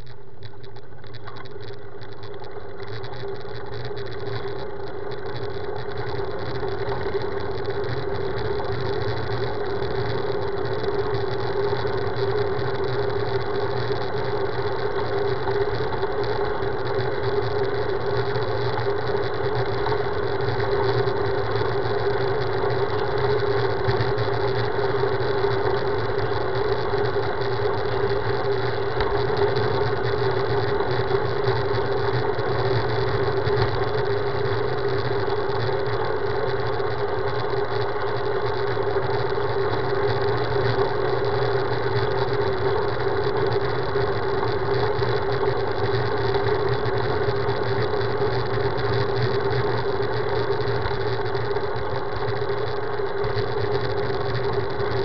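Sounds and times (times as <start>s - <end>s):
constant hum: 0.0s - 55.0s.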